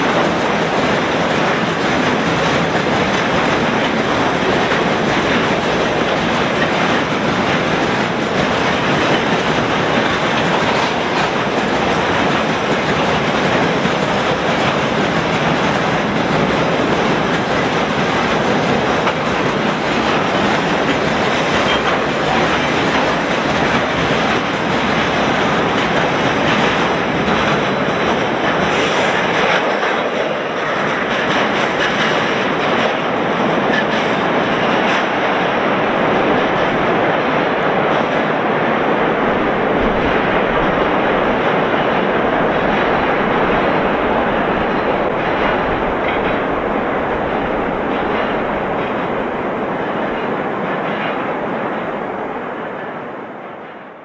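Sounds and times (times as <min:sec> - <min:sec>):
freight train wheels on rail: 0:00.0 - 0:54.0.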